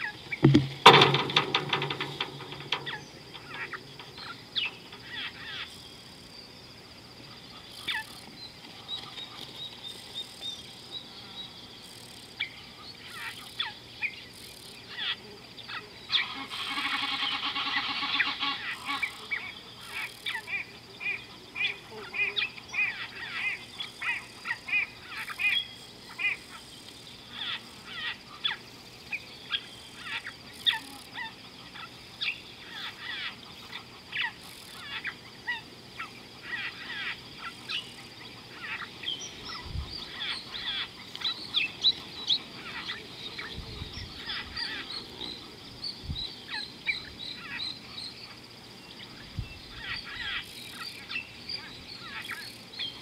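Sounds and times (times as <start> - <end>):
birds calling: 0.0 - 53.0.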